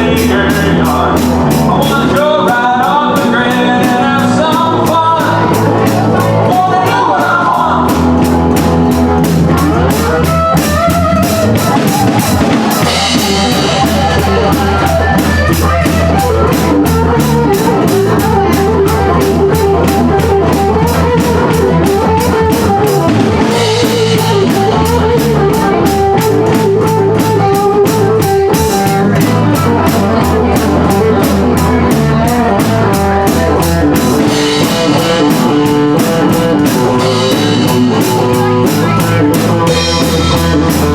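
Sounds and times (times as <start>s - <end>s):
country-rock band playing: 0.0s - 40.9s
drum kit beat: 0.0s - 40.9s.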